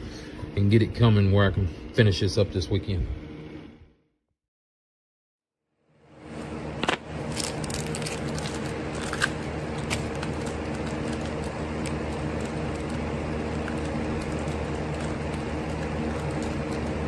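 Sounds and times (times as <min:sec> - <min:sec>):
steady mechanical hum: 0:00.0 - 0:04.0, 0:05.8 - 0:17.0.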